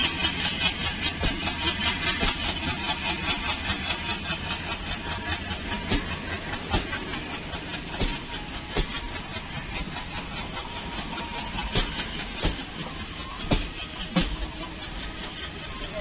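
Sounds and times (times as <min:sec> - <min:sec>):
diesel locomotive engine pulsing: 0:00.0 - 0:16.0.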